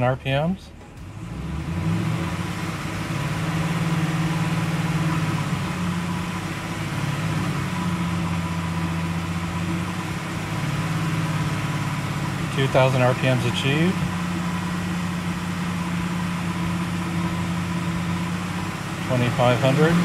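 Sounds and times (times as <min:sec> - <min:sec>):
car engine exhaust at steady revs: 0:00.0 - 0:20.0.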